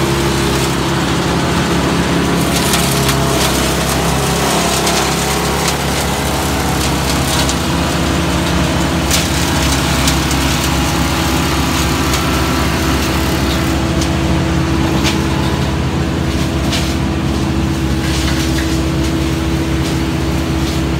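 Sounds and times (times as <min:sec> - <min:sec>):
brush chipper engine running: 0:00.0 - 0:20.9
brush cracking in chipper: 0:00.0 - 0:20.9.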